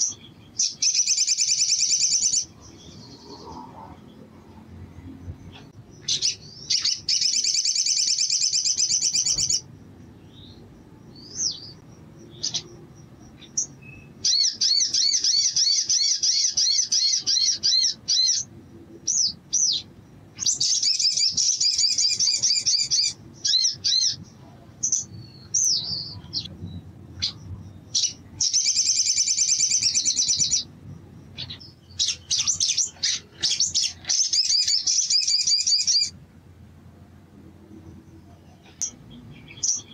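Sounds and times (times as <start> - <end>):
bird singing high trills: 0.0 - 4.1, 5.5 - 30.7, 31.3 - 36.2.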